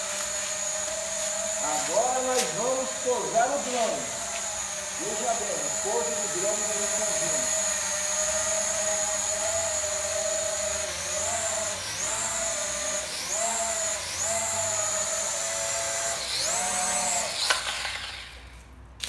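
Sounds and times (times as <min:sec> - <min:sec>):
toy drone propellers whining: 0:00.0 - 0:18.6.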